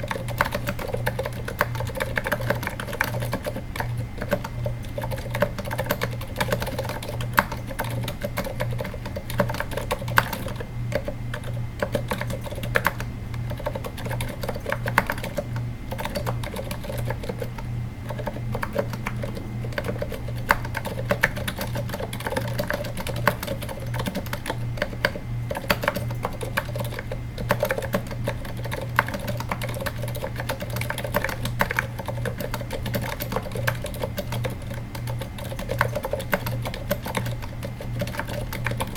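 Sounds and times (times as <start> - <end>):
quiet keyboard typing: 0.0 - 38.9
steady low hum: 0.0 - 38.9.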